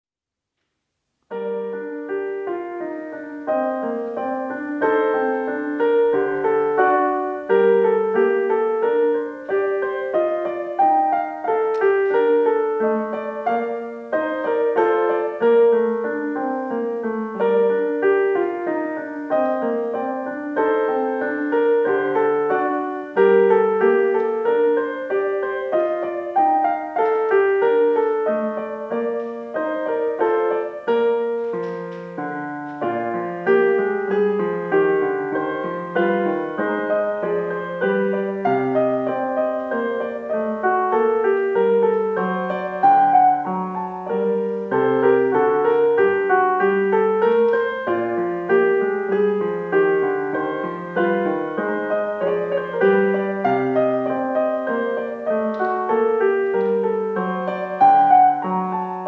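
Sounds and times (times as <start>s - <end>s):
digital piano melody: 1.2s - 59.0s.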